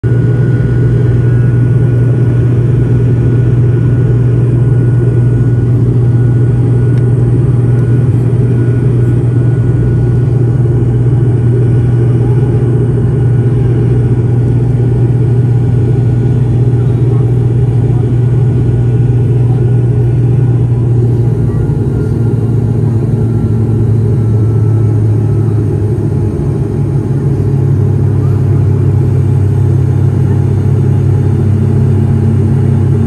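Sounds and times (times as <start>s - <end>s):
turboprop engine drone in cabin: 0.0s - 33.0s.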